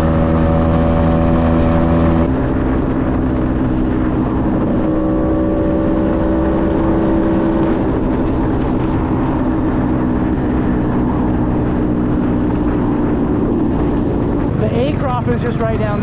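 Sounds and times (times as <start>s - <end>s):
scooter engine humming: 0.0s - 16.0s
wind rush on microphone: 0.0s - 16.0s.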